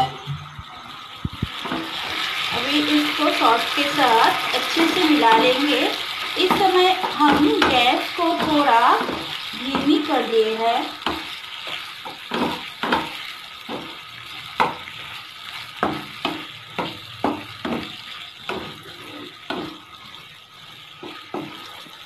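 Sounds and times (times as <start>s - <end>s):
steady sizzle: 0.0s - 22.0s
spatula scraping frying pan: 1.3s - 22.0s.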